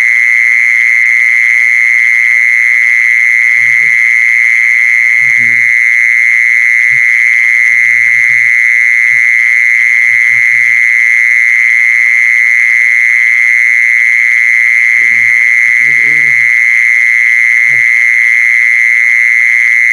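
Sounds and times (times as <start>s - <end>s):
mole cricket trilling: 0.0s - 19.9s.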